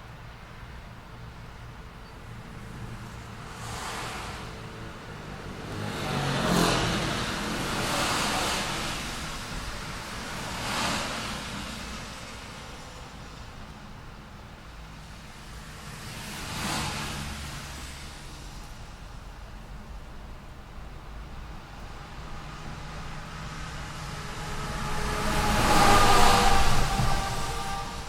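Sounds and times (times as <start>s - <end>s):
cars passing with tyre hiss: 0.0s - 28.0s
low engine rumble: 0.0s - 28.0s.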